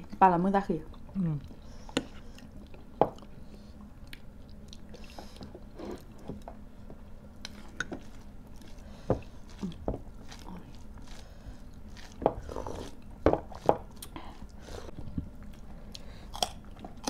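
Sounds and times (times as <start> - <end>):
wet chewing and mouth noises: 0.9 - 6.6, 7.4 - 17.0.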